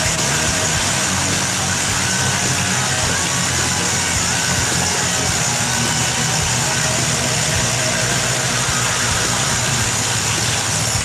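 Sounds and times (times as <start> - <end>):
rotary hammer drilling concrete: 0.0 - 11.0.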